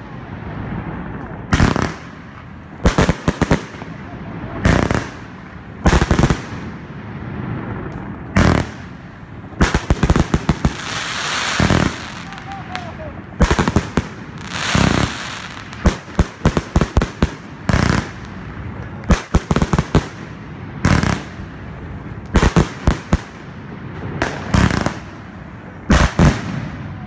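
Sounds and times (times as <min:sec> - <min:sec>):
firework launch and burst bangs: 0:00.8 - 0:21.4, 0:22.2 - 0:27.0.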